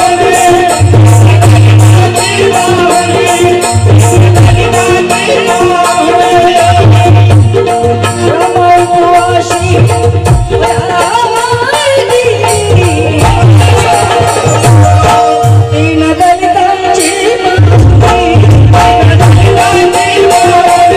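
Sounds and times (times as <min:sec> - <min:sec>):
devotional folk song: 0:00.0 - 0:20.9
hand drums beating: 0:00.0 - 0:20.9.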